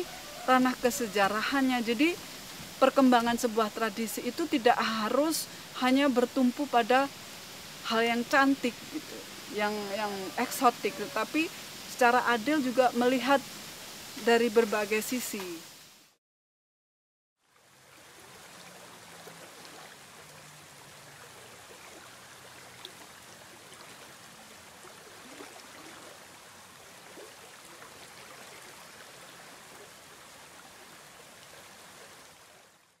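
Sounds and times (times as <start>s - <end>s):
stream running over rocks: 0.0s - 16.2s, 17.4s - 33.0s.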